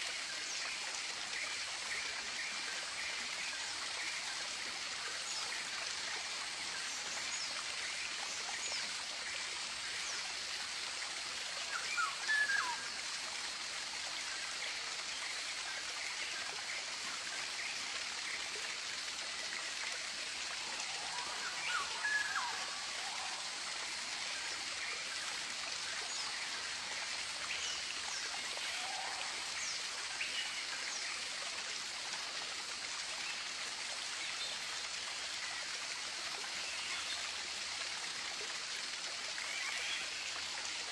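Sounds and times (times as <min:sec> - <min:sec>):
flowing stream: 0:00.0 - 0:40.9.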